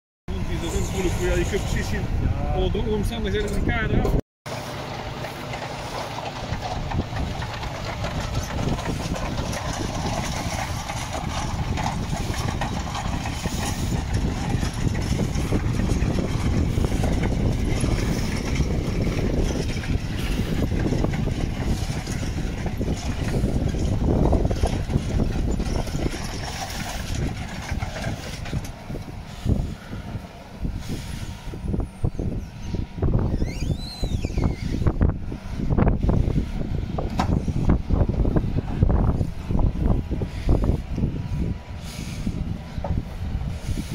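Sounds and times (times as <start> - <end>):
tractor diesel engine running: 0.3 - 43.9.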